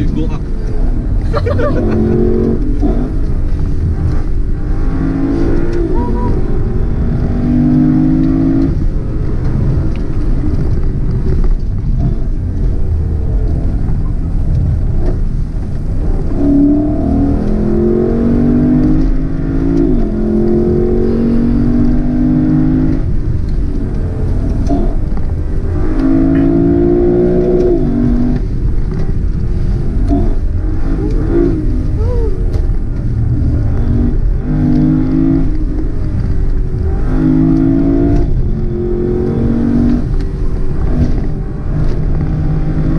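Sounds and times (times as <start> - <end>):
car engine revving hard: 0.0 - 13.8, 14.4 - 42.9
road and tyre noise: 0.0 - 42.9.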